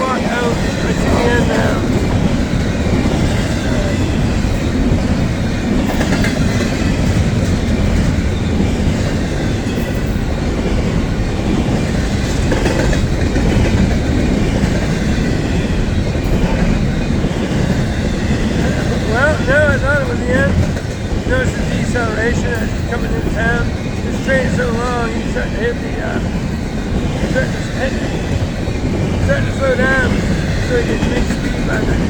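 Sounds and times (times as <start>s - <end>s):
freight train wheels clattering: 0.0s - 32.0s.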